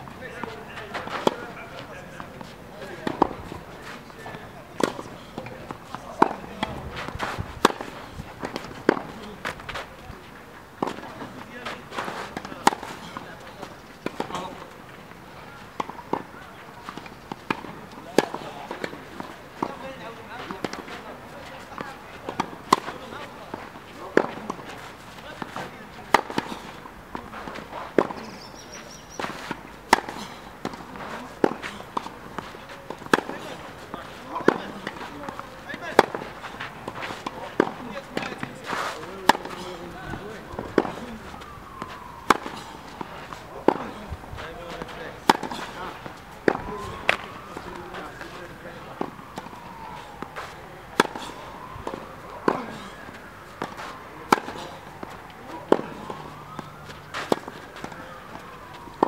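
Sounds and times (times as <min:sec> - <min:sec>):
footsteps on clay court: 0:00.0 - 0:59.0
tennis ball struck by racket: 0:00.3 - 0:09.9, 0:10.8 - 0:14.7, 0:15.7 - 0:59.0.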